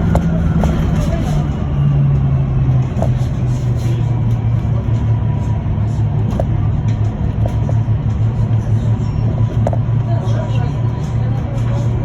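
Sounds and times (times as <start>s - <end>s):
bus cabin low hum: 0.0s - 12.0s
road and tyre noise: 0.0s - 12.0s.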